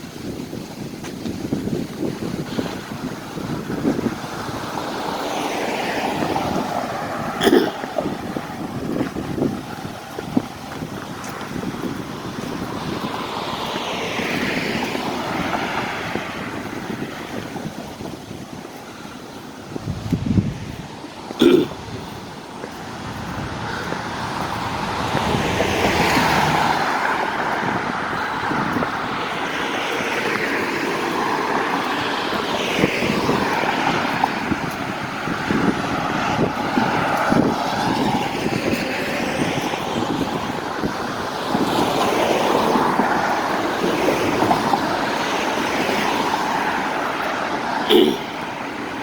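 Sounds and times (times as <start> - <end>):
cars passing: 0.0 - 49.0.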